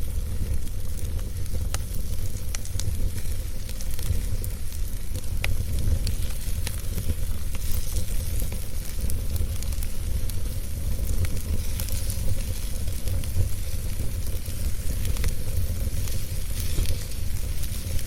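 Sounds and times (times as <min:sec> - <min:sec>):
fire crackles and pops: 0:00.0 - 0:18.0
wood fire roaring and hissing: 0:00.0 - 0:18.0.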